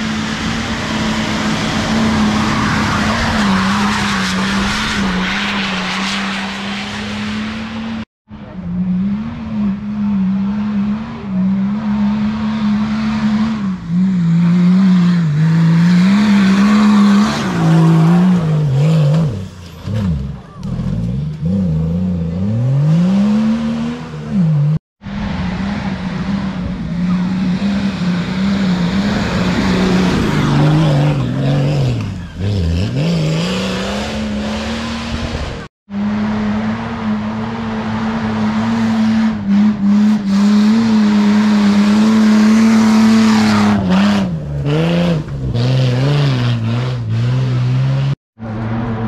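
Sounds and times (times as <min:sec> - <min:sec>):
off-road vehicle engine revving: 0:00.0 - 0:49.0.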